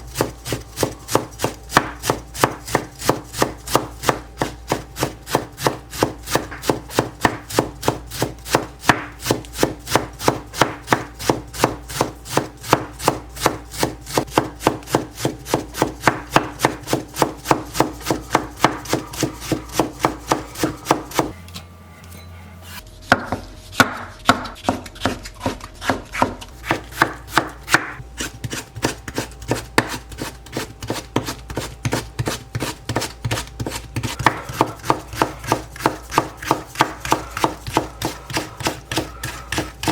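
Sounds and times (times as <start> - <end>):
knife chopping on wooden board: 0.1 - 21.3, 23.1 - 39.9.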